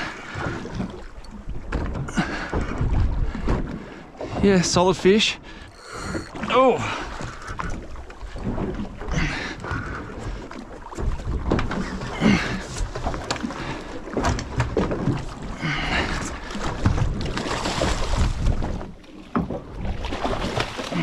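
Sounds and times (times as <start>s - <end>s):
water slapping boat hull: 0.0s - 21.0s.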